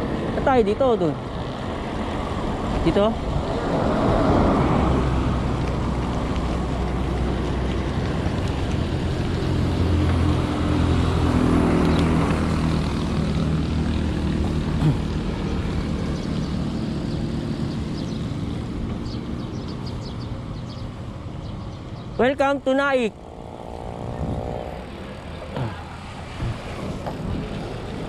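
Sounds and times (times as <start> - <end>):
road and wind noise: 0.0 - 28.0
vehicle engine humming: 0.0 - 28.0.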